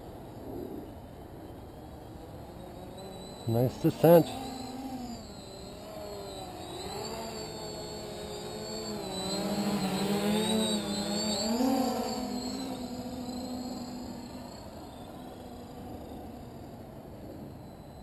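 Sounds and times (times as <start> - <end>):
quadcopter motors buzzing: 0.0 - 18.0.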